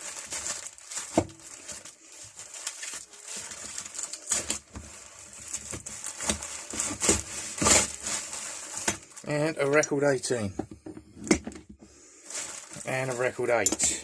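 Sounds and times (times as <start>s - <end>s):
packaging rustling: 0.0s - 9.8s, 11.4s - 14.0s.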